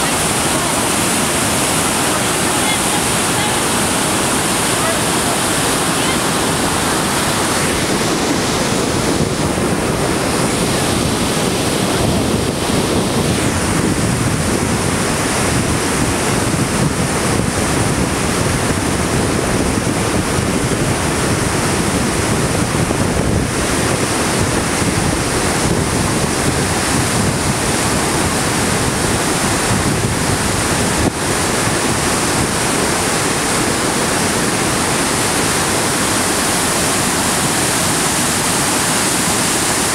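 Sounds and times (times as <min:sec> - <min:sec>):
whitewater rushing over rocks: 0:00.0 - 0:39.9.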